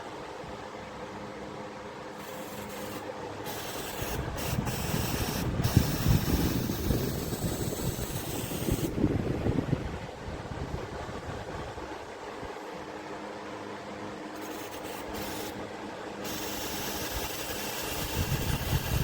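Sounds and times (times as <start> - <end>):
electric fan whooshing: 0.0 - 19.0.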